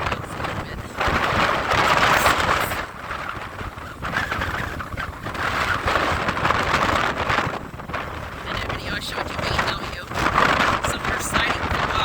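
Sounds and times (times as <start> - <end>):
wind gusting against microphone: 0.0 - 12.0.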